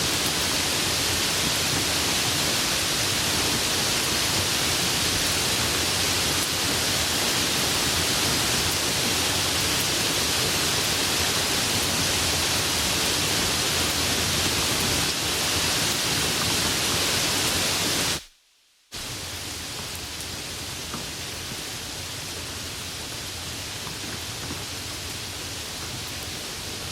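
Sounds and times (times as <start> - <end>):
light rain falling: 0.0 - 26.9.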